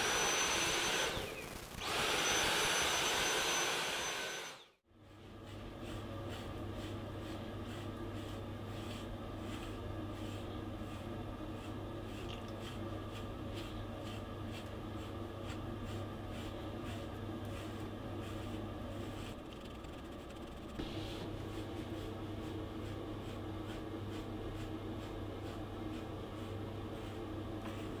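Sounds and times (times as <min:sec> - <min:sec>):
brush scratching through dog fur: 0:05.4 - 0:28.0.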